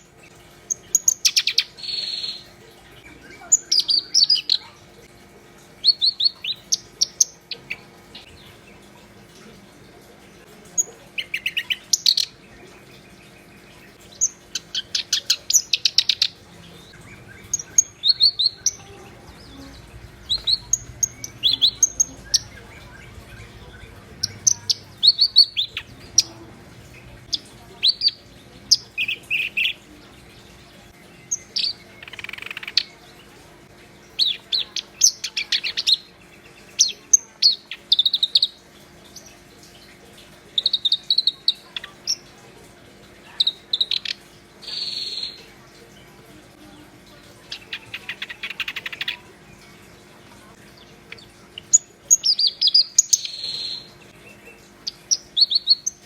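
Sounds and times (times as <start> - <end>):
warbler singing chirps and trills: 0.0 - 5.2, 5.8 - 9.5, 10.2 - 56.0
faint steady hum: 0.0 - 56.0.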